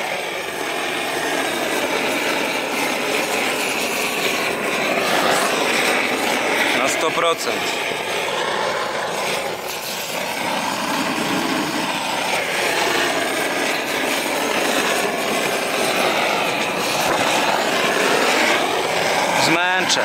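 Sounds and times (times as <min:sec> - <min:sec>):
gas torch roaring: 0:00.0 - 0:20.0.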